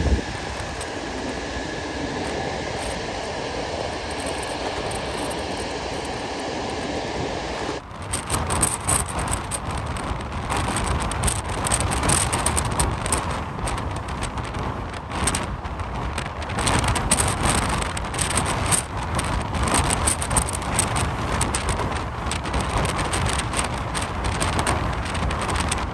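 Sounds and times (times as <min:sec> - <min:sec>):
jet engines roaring: 0:00.0 - 0:23.4
wind buffeting microphone: 0:00.0 - 0:25.9.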